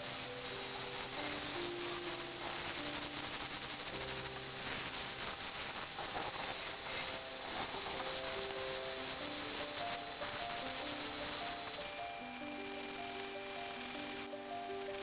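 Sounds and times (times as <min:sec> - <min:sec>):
faint background music: 0:00.0 - 0:15.0
steady hiss: 0:00.0 - 0:15.0.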